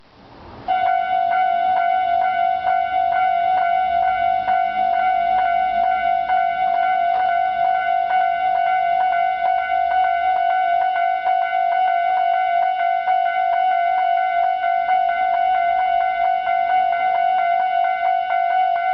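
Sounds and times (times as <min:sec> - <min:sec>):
level crossing alarm bell: 0:00.7 - 0:18.9.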